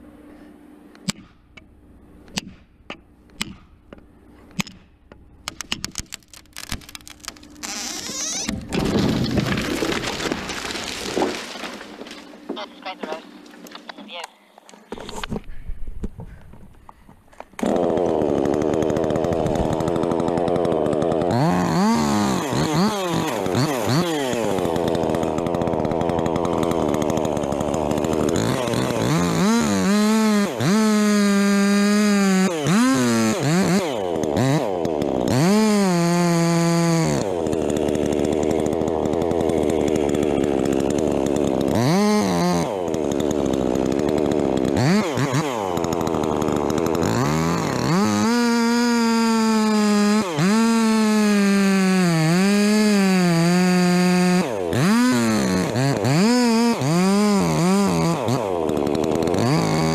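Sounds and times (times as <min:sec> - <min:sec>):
chainsaw engine revving: 0:05.5 - 0:12.2, 0:17.5 - 0:59.9.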